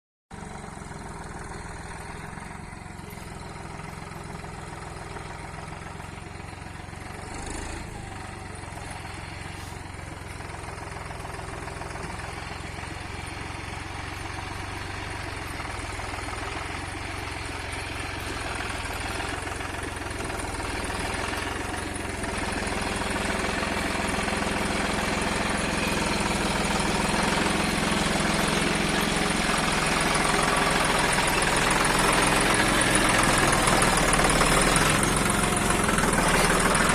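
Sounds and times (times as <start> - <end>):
tractor diesel engine running: 0.3 - 36.9.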